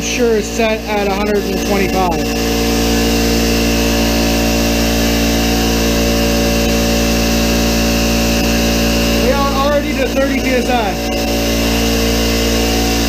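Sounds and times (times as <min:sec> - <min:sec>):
electric air compressor running: 0:00.0 - 0:13.0.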